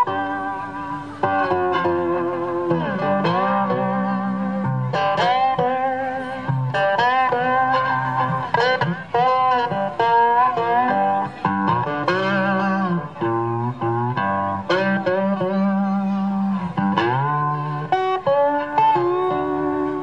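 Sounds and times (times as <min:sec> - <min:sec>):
bending harmonica notes: 0:00.0 - 0:20.0
plucked resonator guitar: 0:00.0 - 0:20.0.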